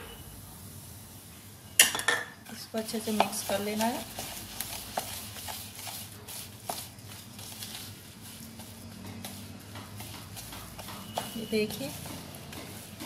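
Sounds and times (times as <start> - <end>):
wooden spatula scraping bowl: 2.5 - 13.0.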